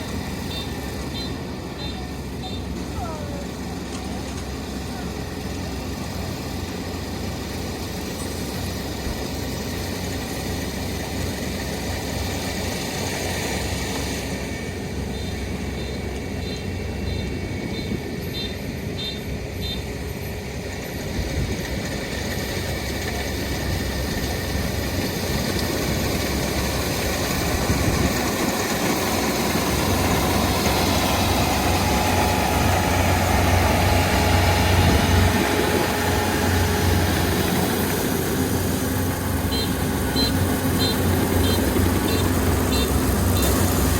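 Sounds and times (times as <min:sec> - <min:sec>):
combine harvester engine drone: 0:00.0 - 0:43.9.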